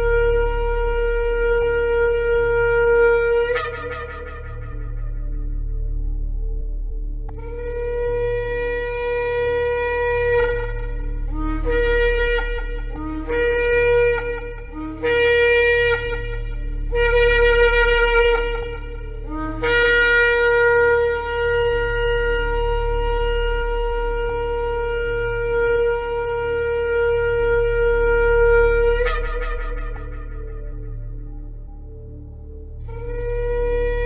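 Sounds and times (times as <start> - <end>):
low steady drone: 0.0 - 34.0
ram's horn blasts: 0.0 - 34.0.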